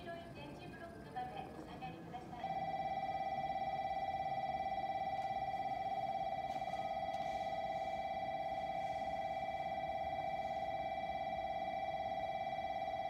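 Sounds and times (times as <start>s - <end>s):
warning bell ringing: 2.4s - 13.0s.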